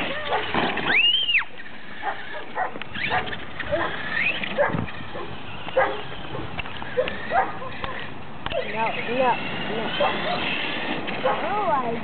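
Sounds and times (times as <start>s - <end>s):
animal yips and whines: 0.0s - 11.6s.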